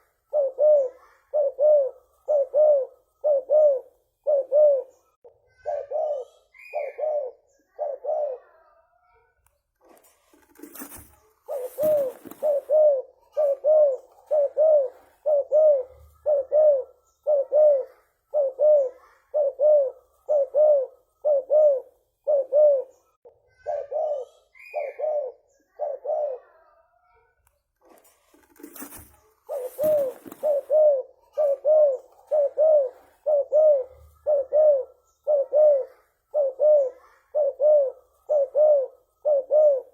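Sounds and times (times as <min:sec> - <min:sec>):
dove cooing: 0:00.0 - 0:08.8, 0:10.4 - 0:26.7, 0:28.4 - 0:39.9.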